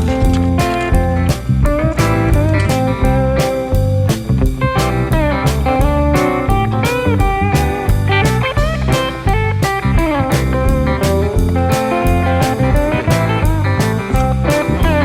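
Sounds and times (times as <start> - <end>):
blues guitar tune over a beat: 0.0 - 15.0.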